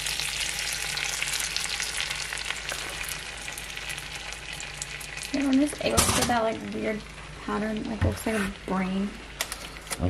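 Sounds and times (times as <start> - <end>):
spinach sizzling in a pan: 0.0 - 9.9.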